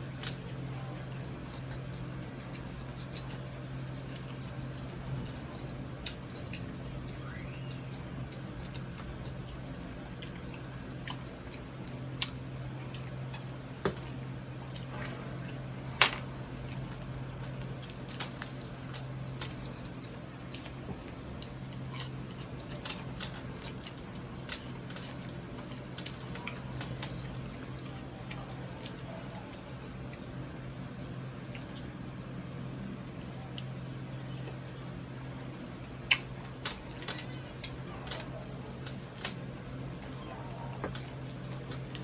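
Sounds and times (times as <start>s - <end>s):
person chewing crispy food: 0.0s - 32.0s, 35.9s - 42.0s
steady low hum: 0.0s - 42.0s.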